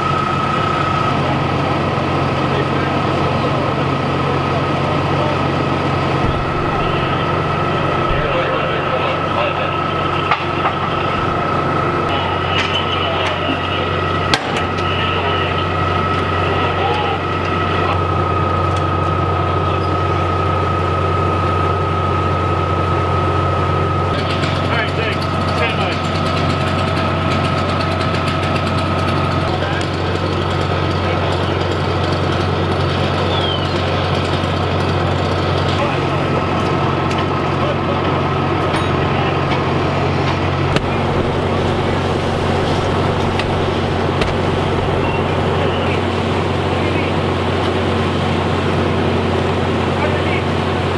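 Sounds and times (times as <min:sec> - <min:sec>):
heavy engine running: 0:00.0 - 0:50.9.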